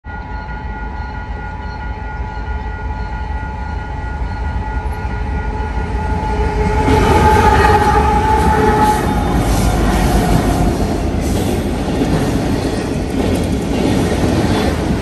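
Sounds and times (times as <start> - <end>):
freight train rumble: 0.1 - 15.0.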